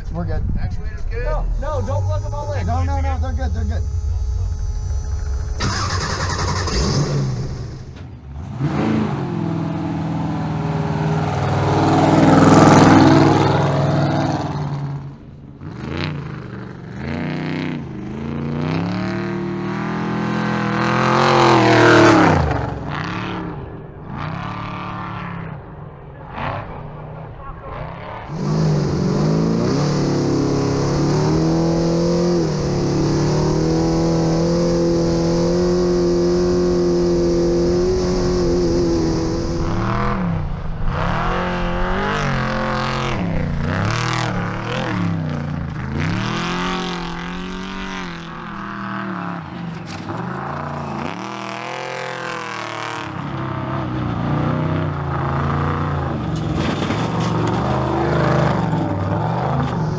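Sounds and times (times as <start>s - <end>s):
truck engine running hard: 0.0s - 59.9s.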